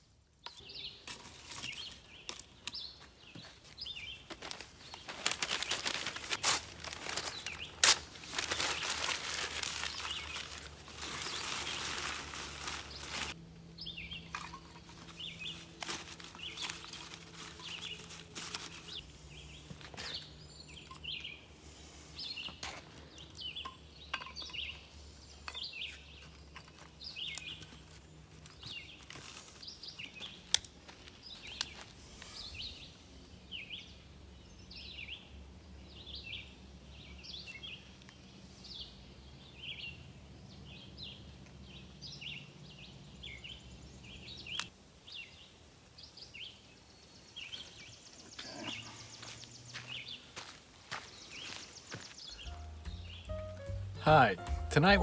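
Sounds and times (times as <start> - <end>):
small birds chirping: 0.4 - 55.0.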